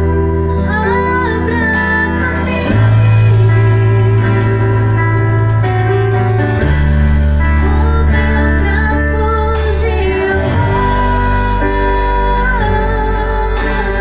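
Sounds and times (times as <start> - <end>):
person singing: 0.0 - 5.4, 7.3 - 14.0
guitar: 0.0 - 14.0
low bass notes: 0.0 - 14.0.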